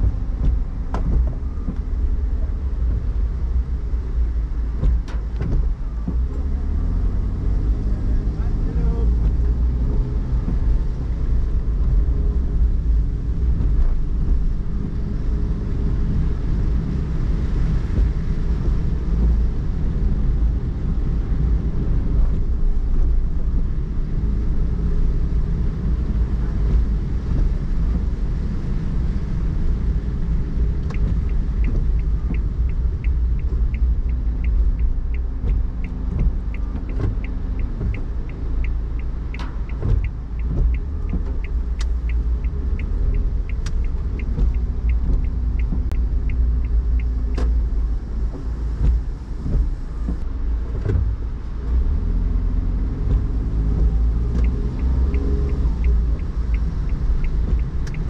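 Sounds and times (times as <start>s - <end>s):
car engine and tyres on wet road: 0.0s - 58.0s
turn signal ticking: 0.0s - 58.0s.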